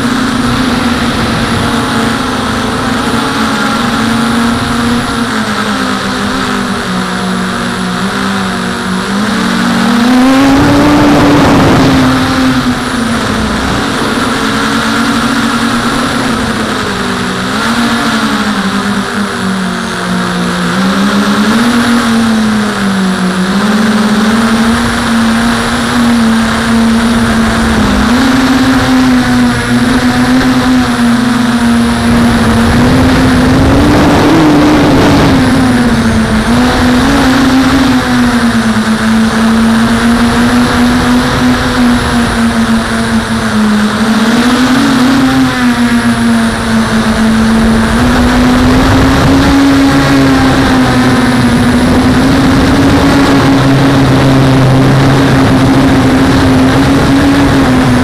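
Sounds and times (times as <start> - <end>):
deeper hum: 0.0 - 58.0
quadcopter propellers buzzing whine: 0.0 - 58.0.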